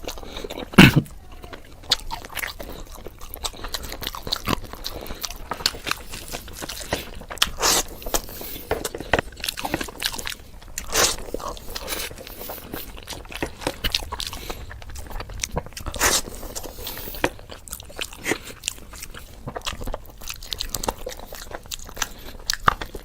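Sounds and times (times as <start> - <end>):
bites: 0.0 - 23.0
person chewing food: 0.0 - 23.0.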